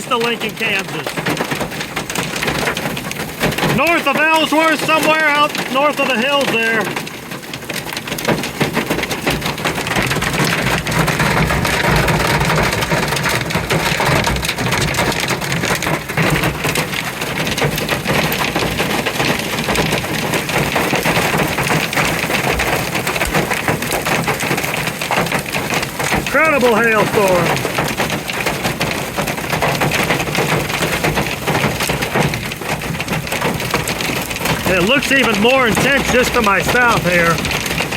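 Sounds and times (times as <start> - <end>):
hail and heavy rain pelting: 0.0 - 37.9.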